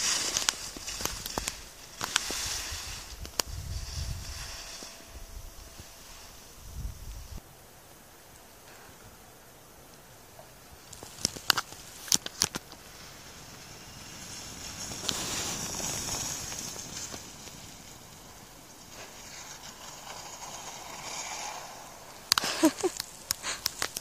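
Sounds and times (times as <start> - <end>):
skis hissing over snow: 0.0 - 7.4, 10.8 - 24.0.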